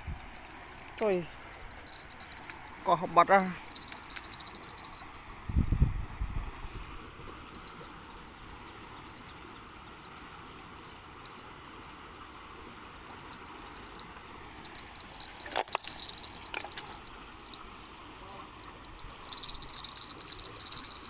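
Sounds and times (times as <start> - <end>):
insects chirping: 0.0 - 5.6, 7.0 - 21.0.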